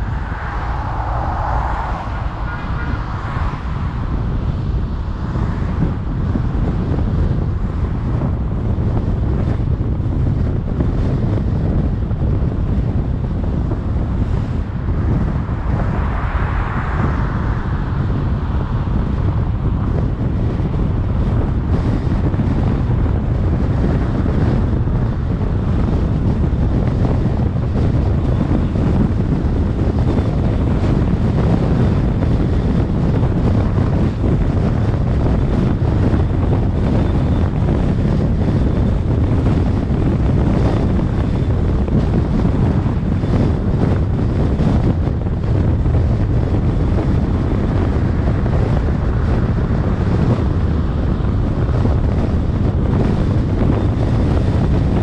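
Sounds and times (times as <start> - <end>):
road and tyre noise: 0.0 - 55.0
wind buffeting microphone: 0.0 - 55.0.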